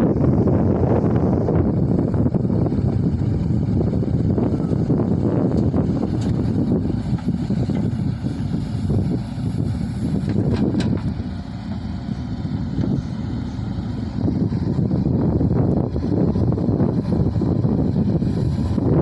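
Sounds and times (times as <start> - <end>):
diesel engine running: 0.0 - 19.0
wind buffeting microphone: 0.0 - 19.0.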